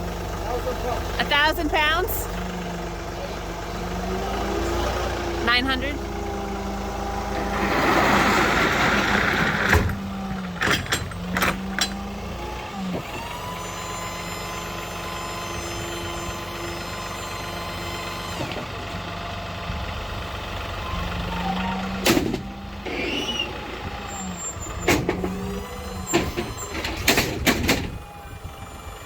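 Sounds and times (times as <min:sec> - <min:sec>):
engine idling: 0:00.0 - 0:07.7, 0:08.4 - 0:29.0.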